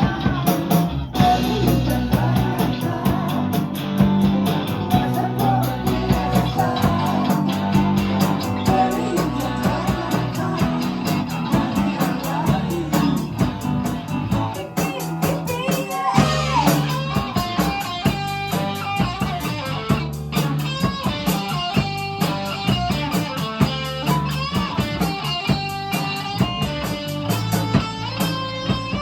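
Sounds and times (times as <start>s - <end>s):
bass guitar: 0.0s - 29.0s
drum kit beat: 0.0s - 29.0s
electric guitar lead line: 0.0s - 29.0s.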